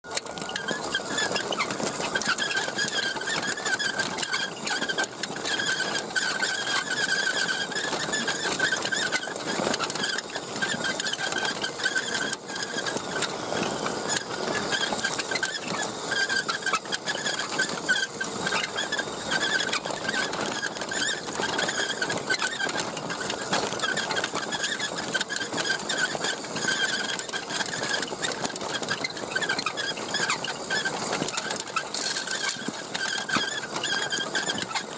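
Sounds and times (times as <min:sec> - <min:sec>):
wheels crunching on dirt: 0:00.0 - 0:34.9.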